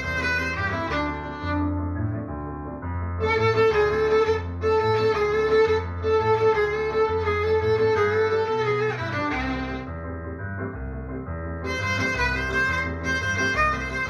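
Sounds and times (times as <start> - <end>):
violin melody: 0.0 - 2.3, 3.2 - 10.1, 11.6 - 14.0
regular low beat: 0.0 - 14.0.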